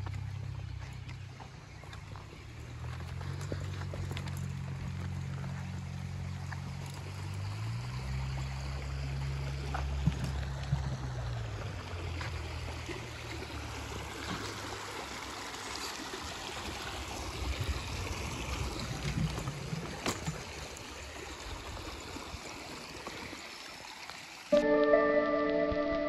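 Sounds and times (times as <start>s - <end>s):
creek running over stones: 0.0s - 26.0s.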